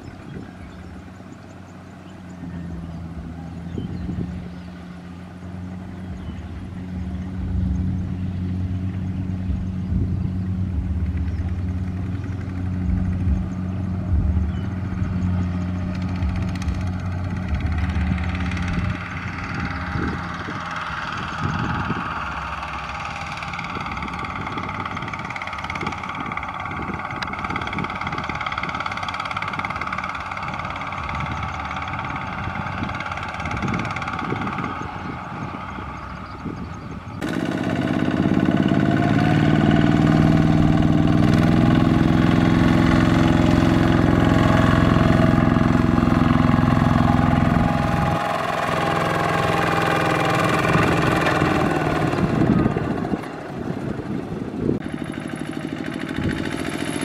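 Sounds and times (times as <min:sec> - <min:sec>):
diesel engine running: 0:00.0 - 0:57.0
higher-pitched engine: 0:00.0 - 0:57.0.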